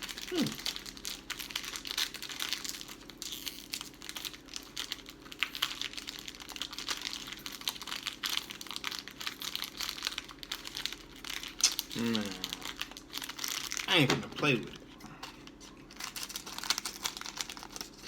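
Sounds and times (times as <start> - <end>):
plastic wrapper crinkling: 0.0 - 18.0.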